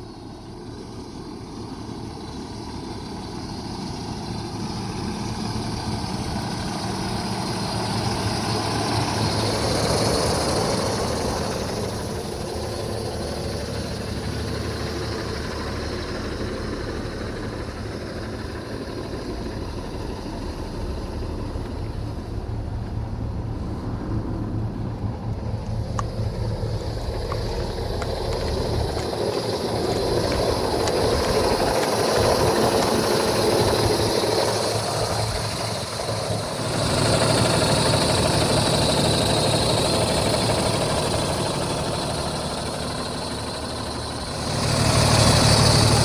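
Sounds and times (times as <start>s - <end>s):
diesel truck engine running: 0.0s - 46.0s.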